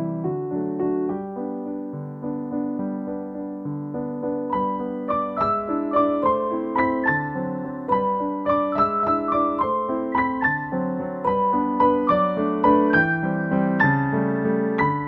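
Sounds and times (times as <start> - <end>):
piano melody over held chords: 0.0 - 15.0.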